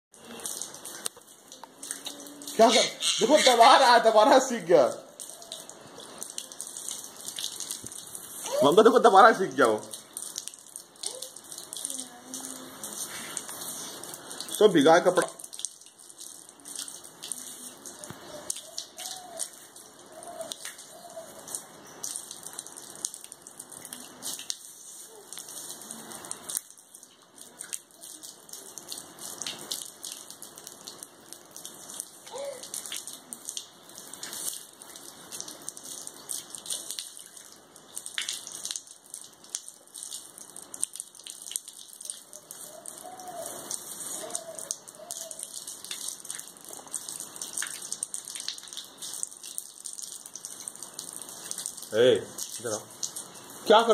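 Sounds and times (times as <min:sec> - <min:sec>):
hose water splashing on concrete: 0:00.1 - 0:53.9.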